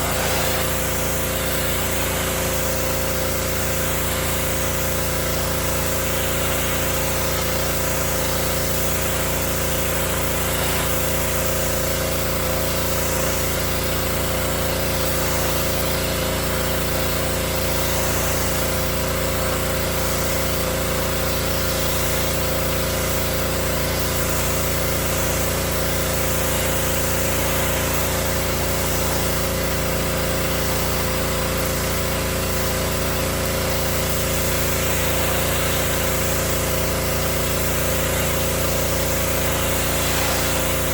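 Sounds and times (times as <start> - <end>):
water jet spraying boards: 0.0 - 22.9, 23.6 - 40.9
pressure washer engine running: 0.0 - 40.9.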